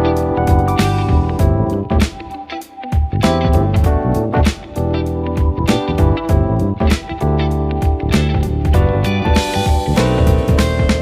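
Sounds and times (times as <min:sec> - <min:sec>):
guitar-led background music: 0:00.0 - 0:11.0.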